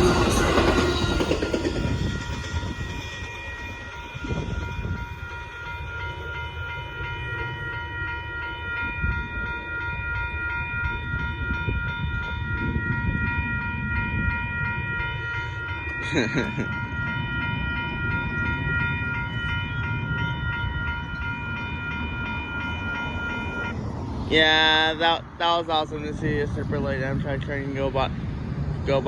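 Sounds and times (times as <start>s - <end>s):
crossing bell ringing: 0.0s - 28.0s
train wheels rumbling on rails: 0.0s - 29.0s.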